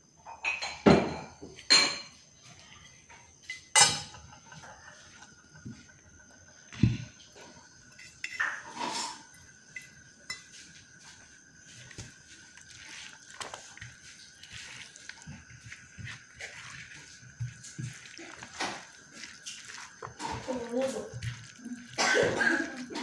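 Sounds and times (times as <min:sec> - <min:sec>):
wet squishing of food by hand: 0:04.4 - 0:23.0.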